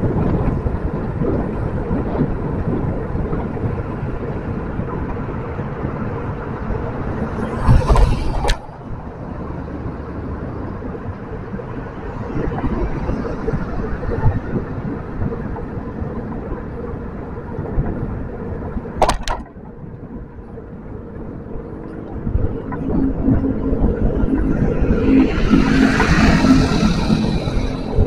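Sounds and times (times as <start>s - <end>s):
low road rumble: 0.0s - 28.0s
wind rush: 0.0s - 28.0s.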